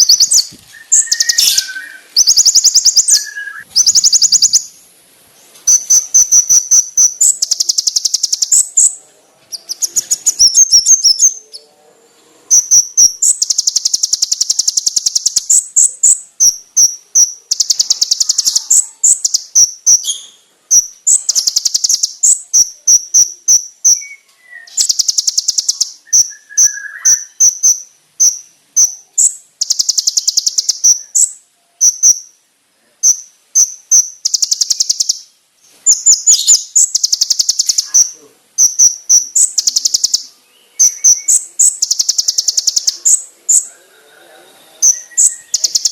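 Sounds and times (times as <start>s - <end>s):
songbird singing shrill trills: 0.0s - 45.9s.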